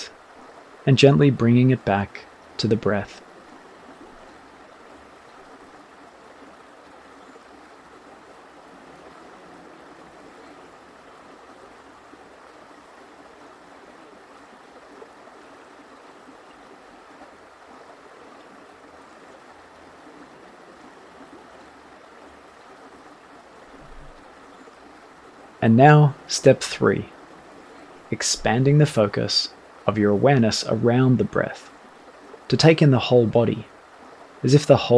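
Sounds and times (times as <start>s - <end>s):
creek babbling: 0.0s - 34.9s.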